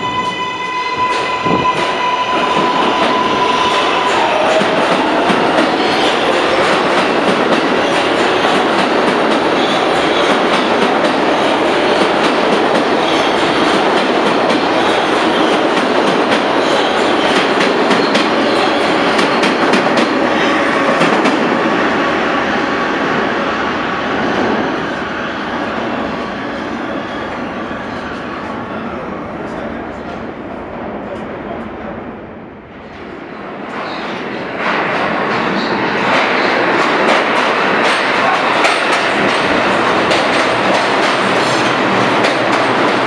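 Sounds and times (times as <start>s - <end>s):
train rumble: 0.0s - 28.2s, 29.2s - 43.0s.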